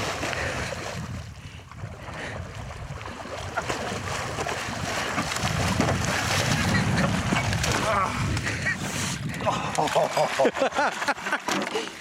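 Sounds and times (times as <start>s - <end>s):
feet splashing in water: 0.0s - 1.2s, 1.8s - 12.0s
wind buffeting microphone: 0.0s - 9.8s.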